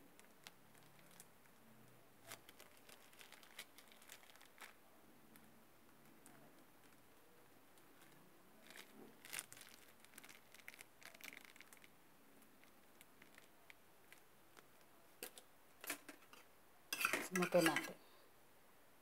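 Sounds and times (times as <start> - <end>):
faint crinkling: 0.0 - 18.4.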